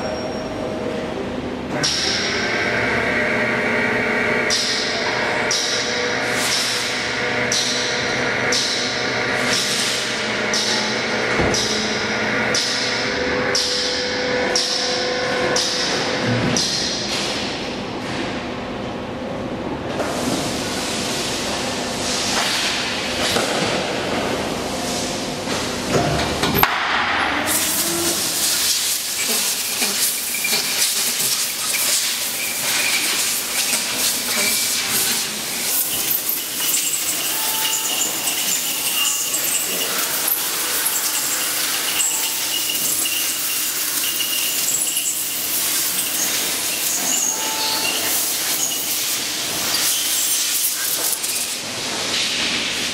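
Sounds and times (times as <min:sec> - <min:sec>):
factory noise: 0:00.0 - 0:52.9.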